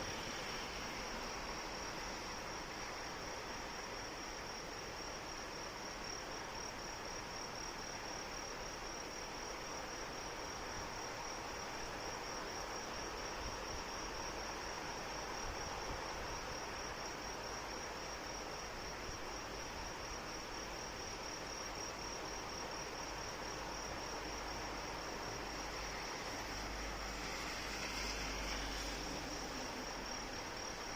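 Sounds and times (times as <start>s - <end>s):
crickets trilling: 0.0s - 30.9s
steady rain hiss: 0.0s - 30.9s.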